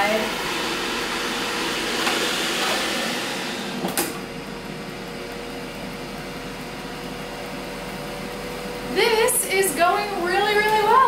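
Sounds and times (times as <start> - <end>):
air fryer whirring hum: 0.0 - 11.0.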